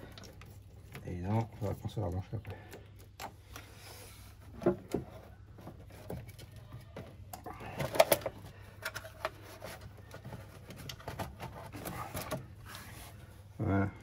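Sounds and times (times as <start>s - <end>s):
hands handling plastic parts: 0.0s - 13.5s.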